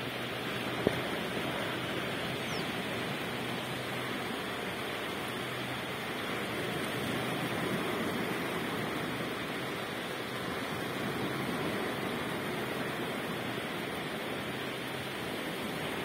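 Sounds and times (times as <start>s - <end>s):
surf washing onto pebbly shore: 0.0s - 16.0s.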